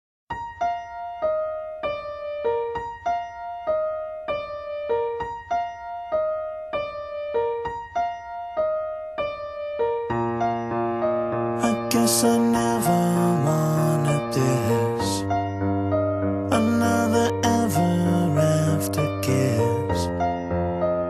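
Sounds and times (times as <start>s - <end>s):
fuller musical accompaniment: 0.3s - 21.0s
gentle keyboard melody: 0.3s - 21.0s.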